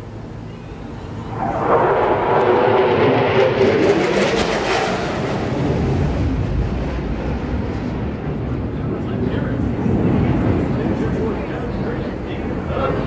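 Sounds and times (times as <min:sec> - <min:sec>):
jet noise: 0:00.0 - 0:13.0.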